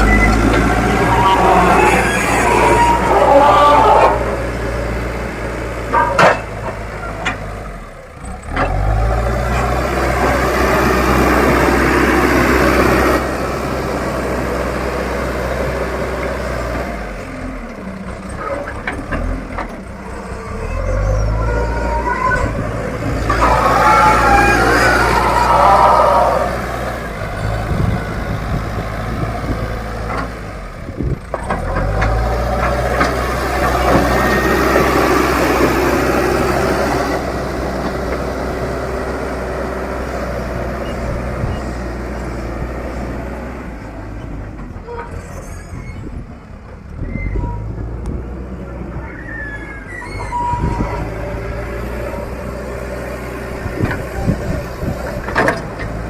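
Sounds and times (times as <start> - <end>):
diesel engine running under work: 0.0 - 56.0.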